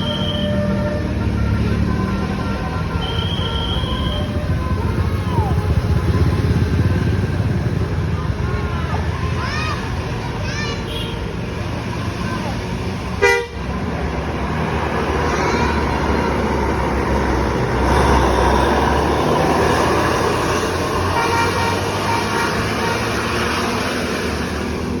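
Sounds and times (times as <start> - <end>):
bus engine rumbling: 0.0 - 25.0
road traffic: 0.0 - 25.0.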